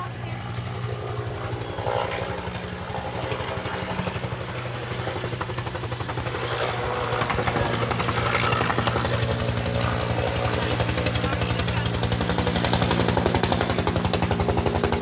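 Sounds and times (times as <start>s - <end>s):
helicopter engine hum: 0.0s - 15.0s
helicopter rotor beating: 0.0s - 15.0s.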